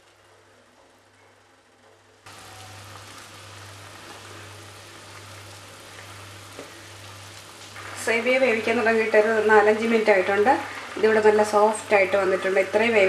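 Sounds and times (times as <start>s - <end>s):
low steady hum: 0.0s - 13.0s
water boiling and bubbling: 2.2s - 13.0s.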